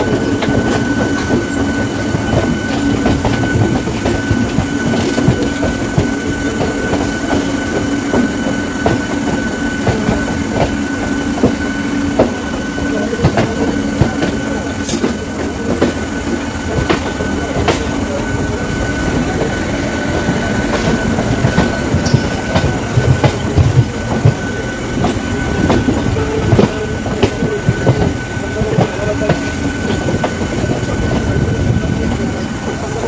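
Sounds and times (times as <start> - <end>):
clacks over rail joints: 0.0 - 18.5, 19.1 - 32.9
train wheels rumbling on rails: 0.0 - 33.0.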